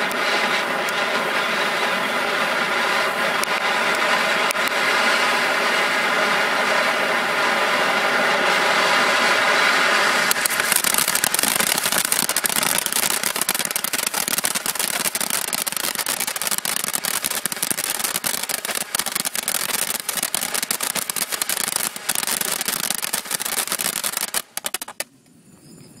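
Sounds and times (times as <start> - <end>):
firework fountain buzzing and crackling: 0.0 - 25.1.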